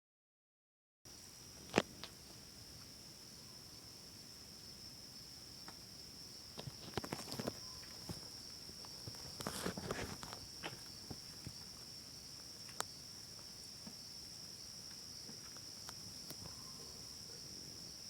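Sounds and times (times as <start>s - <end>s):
insects chirring: 1.1s - 18.0s.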